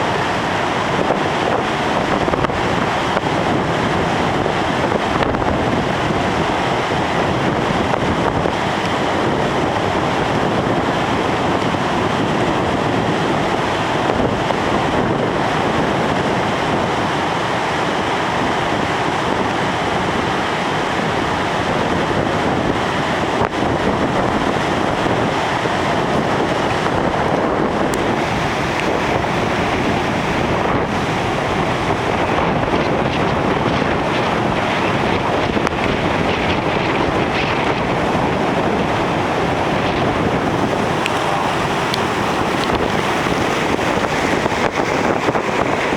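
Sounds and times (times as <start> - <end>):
heavy surf breaking: 0.0 - 45.9
wind buffeting microphone: 0.0 - 45.9.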